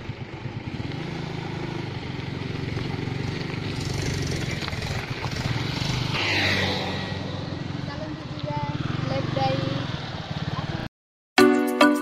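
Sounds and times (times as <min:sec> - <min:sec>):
scooter engine pulling away: 0:00.0 - 0:10.9.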